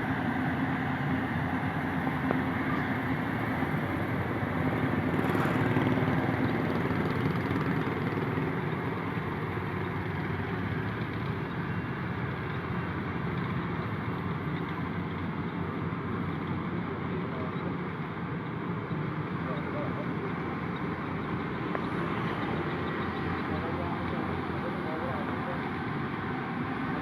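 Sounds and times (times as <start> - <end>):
combine harvester diesel engine: 0.0 - 27.0.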